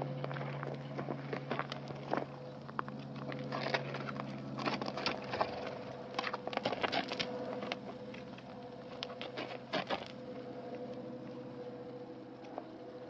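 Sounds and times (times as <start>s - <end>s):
hooves on gravel: 0.0s - 13.0s
steady low hum: 0.0s - 13.0s.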